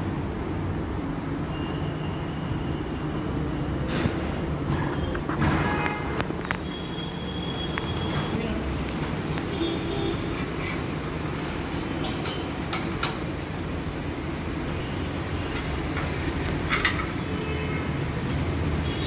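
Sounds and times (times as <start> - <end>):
gas burner flames roaring: 2.9 - 19.0.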